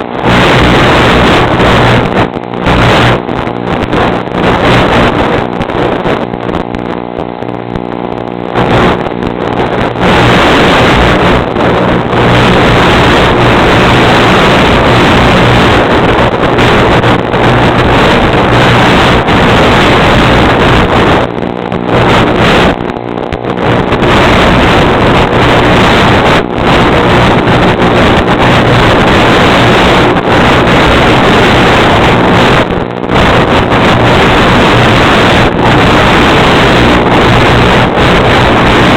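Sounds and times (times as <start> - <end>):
motor drone: 0.0 - 38.9
wind rushing over microphone: 0.0 - 38.9.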